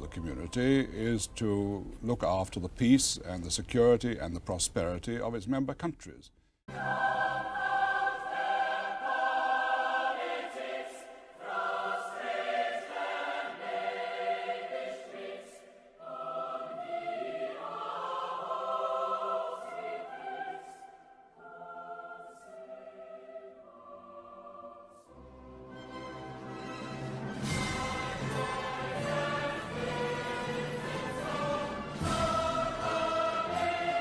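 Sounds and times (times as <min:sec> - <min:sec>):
choir singing held chords: 0:06.7 - 0:34.0.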